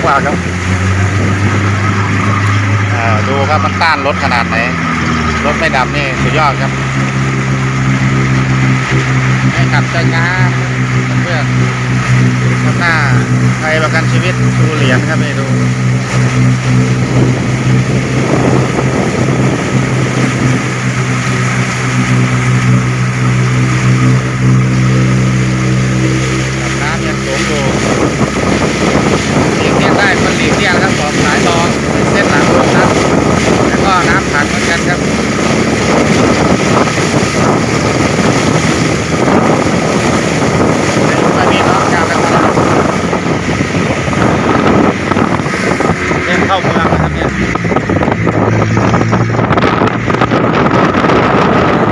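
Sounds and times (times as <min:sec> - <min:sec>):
vehicle engine droning: 0:00.0 - 0:51.9
water washing and swishing: 0:00.0 - 0:51.9
wind buffeting microphone: 0:00.0 - 0:51.9.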